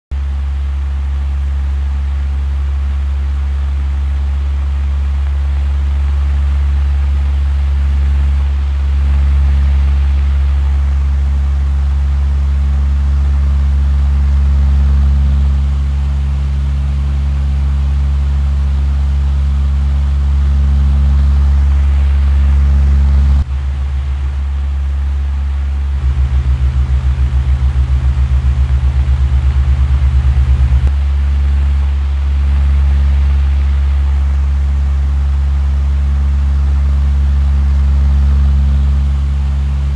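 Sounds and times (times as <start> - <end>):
diesel machinery droning: 7.7 - 39.9.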